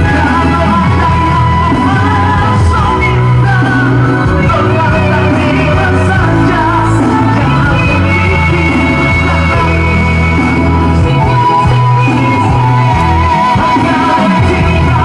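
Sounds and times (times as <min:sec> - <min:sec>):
backing music with bass: 0:00.0 - 0:15.0
man singing into microphone: 0:00.0 - 0:15.0.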